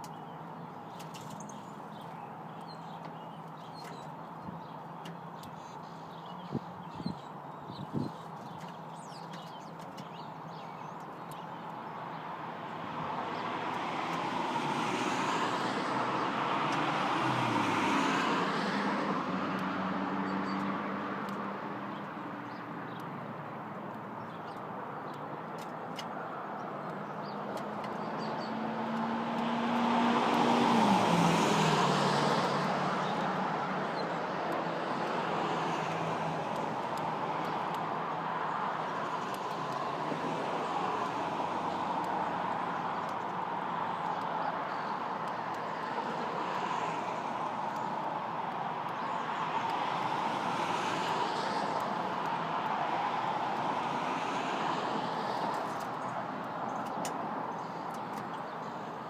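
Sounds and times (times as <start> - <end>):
road vehicles passing by: 0.0 - 59.0.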